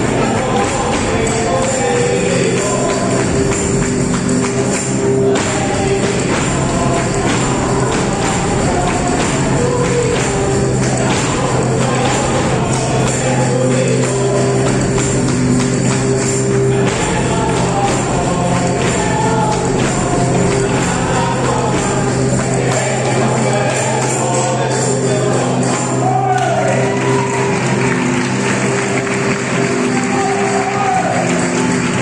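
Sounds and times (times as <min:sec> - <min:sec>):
person singing: 0:00.0 - 0:27.1
sharp percussion strokes: 0:00.0 - 0:32.0.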